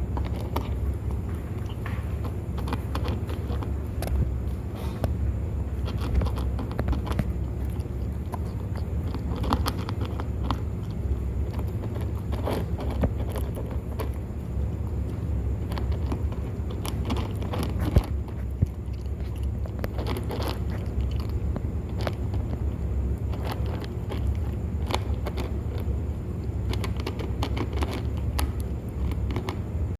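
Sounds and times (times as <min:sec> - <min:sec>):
kittens chewing food: 0:00.0 - 0:29.9.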